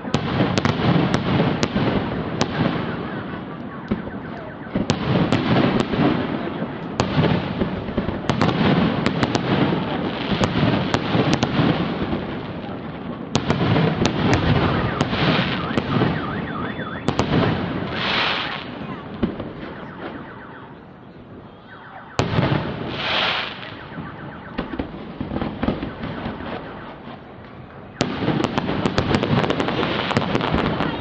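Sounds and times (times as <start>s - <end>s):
fireworks crackling: 0.0s - 21.4s, 22.0s - 31.0s
rumble of explosions: 0.0s - 21.5s, 22.1s - 31.0s.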